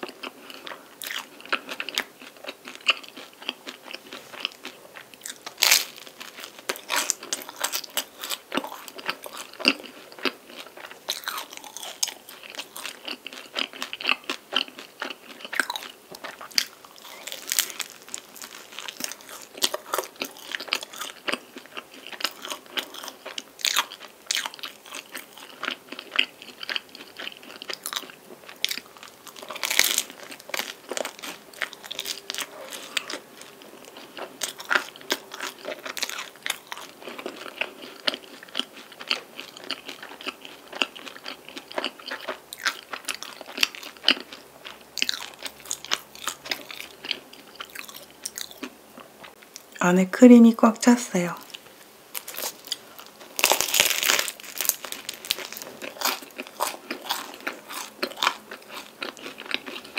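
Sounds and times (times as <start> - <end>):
crunchy biting and chewing: 0.0 - 49.8, 51.5 - 59.9.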